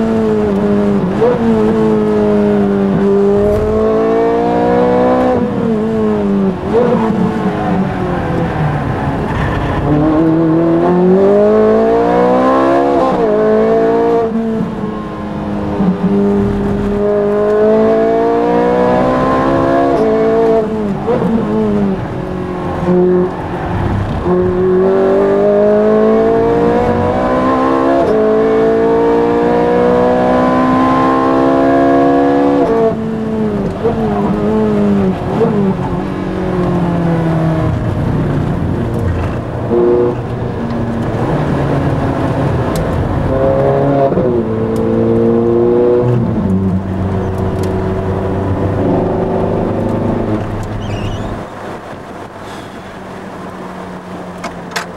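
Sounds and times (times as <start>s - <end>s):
race car engine revving: 0.0s - 52.3s.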